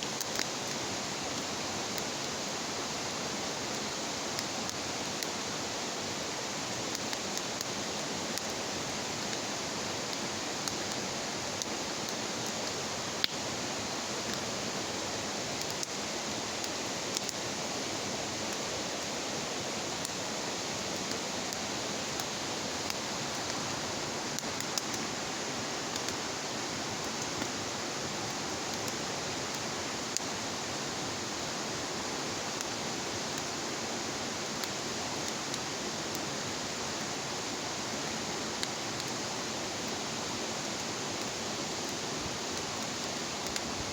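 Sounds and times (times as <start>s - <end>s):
bonfire hissing: 0.0s - 43.9s
fire crackles and pops: 0.0s - 43.9s.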